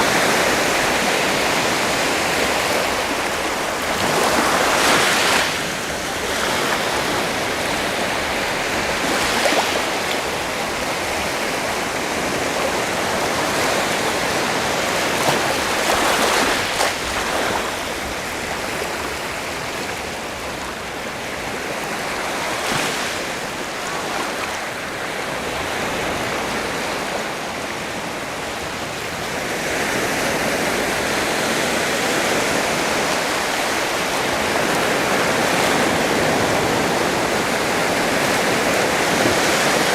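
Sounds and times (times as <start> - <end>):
sea surf washing on shore: 0.0 - 39.9.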